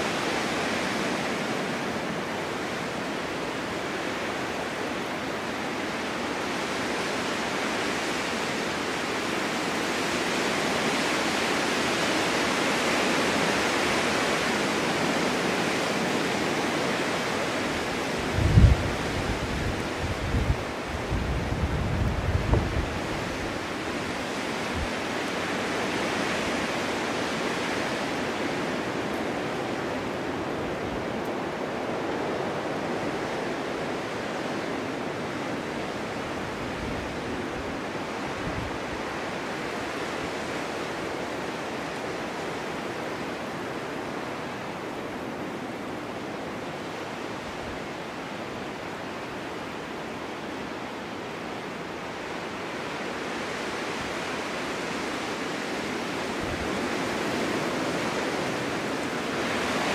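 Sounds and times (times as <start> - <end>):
snowstorm wind rushing: 0.0 - 59.9.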